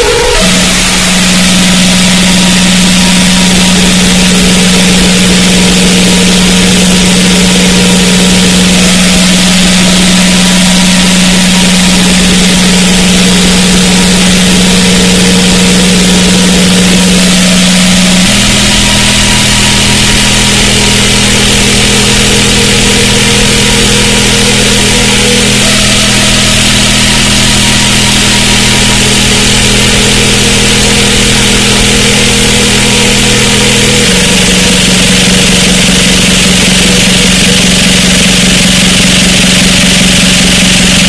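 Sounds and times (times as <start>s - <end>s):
distorted electronic noise music: 0.0s - 41.0s
low buzzing drone: 0.0s - 41.0s.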